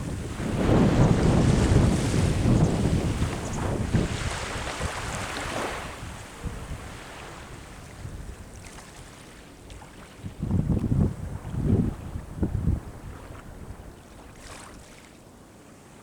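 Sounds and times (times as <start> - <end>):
wind buffeting microphone: 0.0 - 14.8
sea waves washing on shore: 0.0 - 16.0.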